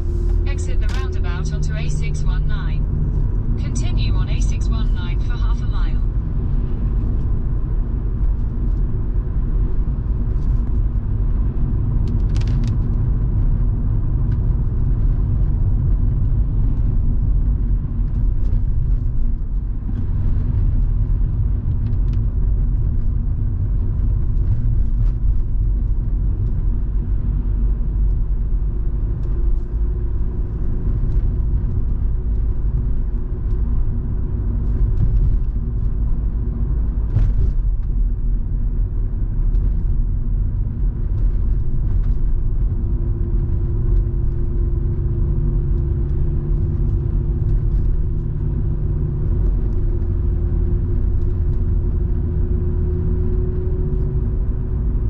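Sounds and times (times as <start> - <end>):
car engine cruising: 0.0 - 55.0
road noise: 0.0 - 55.0.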